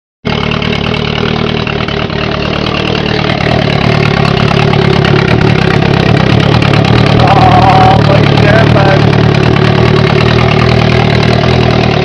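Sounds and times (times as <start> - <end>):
motorcycle engine idling: 0.2 - 12.0.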